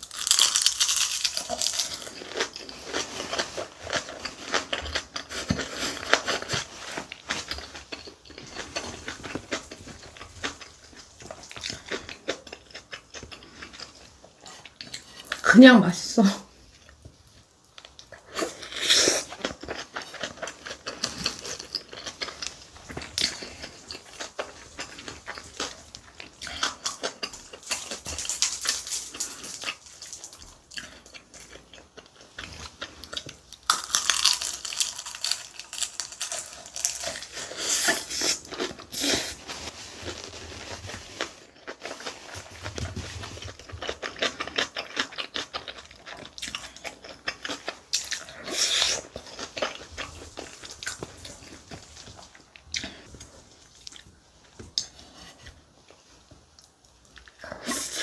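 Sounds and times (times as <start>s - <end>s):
person chewing food: 0.0s - 15.4s, 16.7s - 58.0s.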